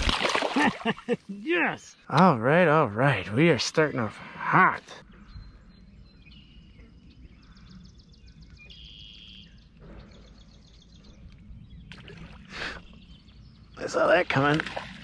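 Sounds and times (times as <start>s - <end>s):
faint birdsong trills: 0.8s - 15.0s.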